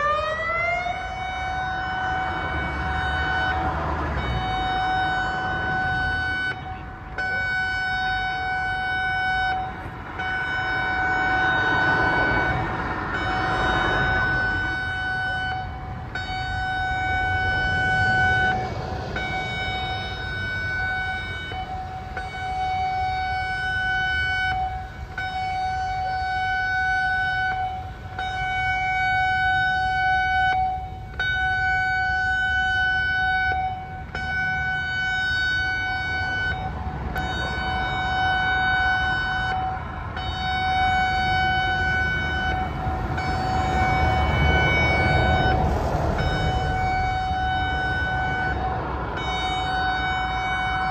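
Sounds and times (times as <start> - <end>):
electronic siren: 0.0 - 50.9
road traffic rumble: 0.0 - 50.9.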